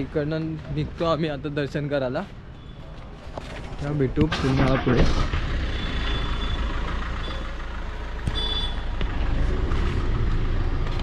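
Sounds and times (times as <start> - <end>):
rumble of vehicles: 0.0 - 11.0.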